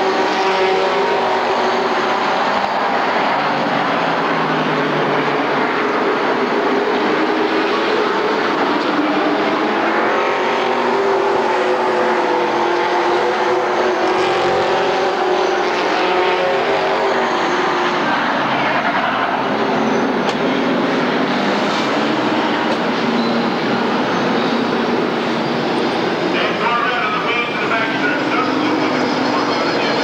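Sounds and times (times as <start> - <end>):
stock car engines racing: 0.0 - 30.0.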